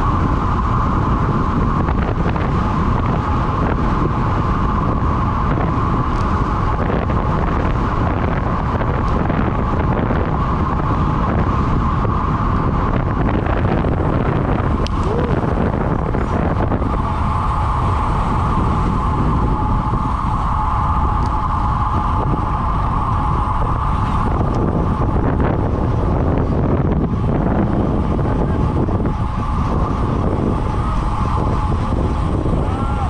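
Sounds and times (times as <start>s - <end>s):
high hum: 0.0s - 33.0s
wind buffeting microphone: 0.0s - 33.0s.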